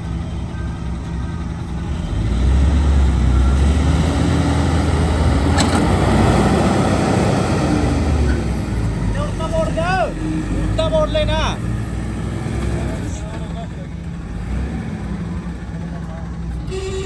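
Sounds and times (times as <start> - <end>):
heavy diesel engine labouring: 0.0 - 17.0.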